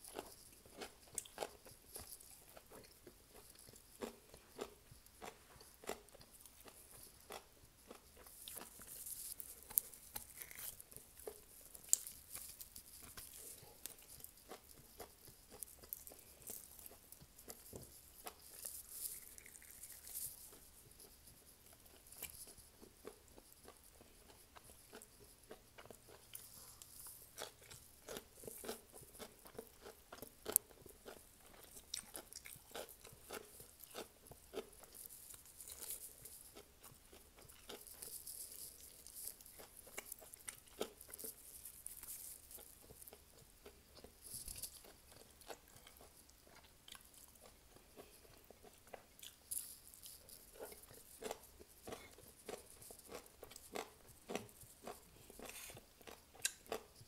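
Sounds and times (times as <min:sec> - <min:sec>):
chewing chicken wings: 0:00.0 - 0:57.0.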